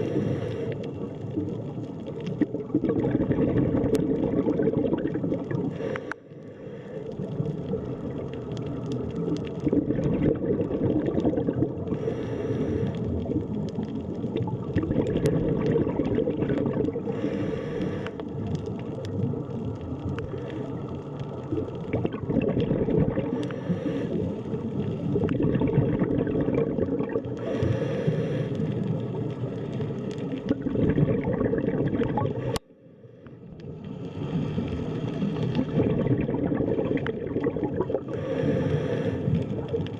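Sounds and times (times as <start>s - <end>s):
bubbling hiss: 0.0s - 39.9s
underwater wash and gurgling: 0.0s - 39.9s.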